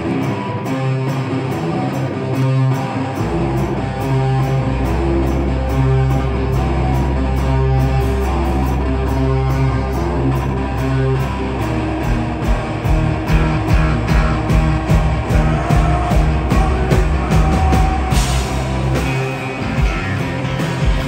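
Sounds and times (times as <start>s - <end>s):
drums steady beat: 0.0s - 9.3s, 10.0s - 21.0s
electric guitar: 0.0s - 21.0s.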